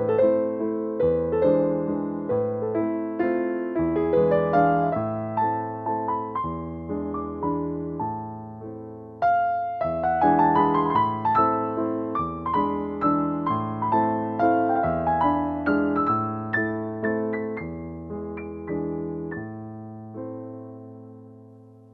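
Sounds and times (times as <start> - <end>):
gentle piano music: 0.0 - 21.9.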